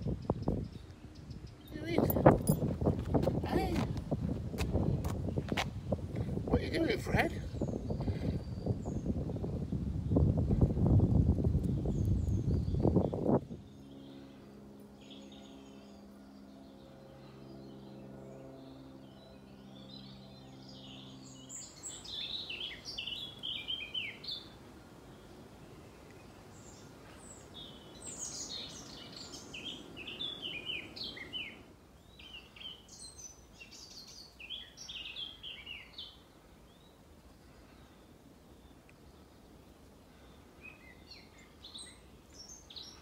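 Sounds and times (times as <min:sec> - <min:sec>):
plane engine droning overhead: 0:00.0 - 0:43.0
songbird singing: 0:00.0 - 0:43.0.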